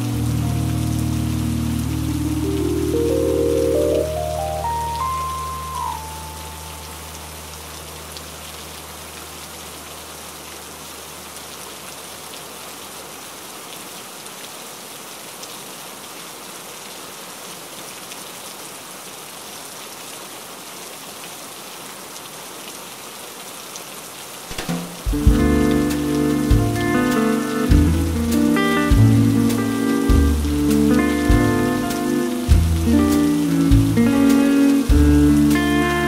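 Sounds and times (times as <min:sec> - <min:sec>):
rain on a window pane: 0:00.0 - 0:36.0.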